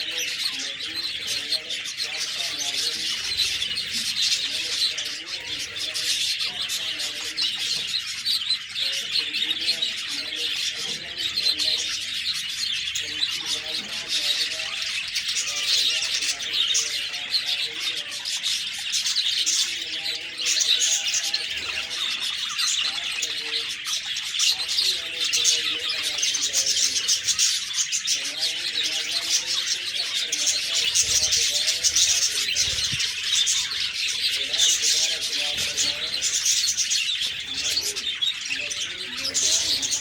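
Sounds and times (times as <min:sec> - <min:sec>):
budgerigars chirping: 0:00.0 - 0:40.0.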